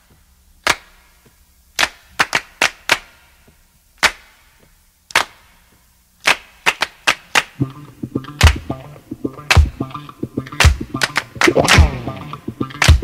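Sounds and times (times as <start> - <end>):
sharp handclaps: 0.6 - 1.2, 1.8 - 5.6, 6.2 - 13.0.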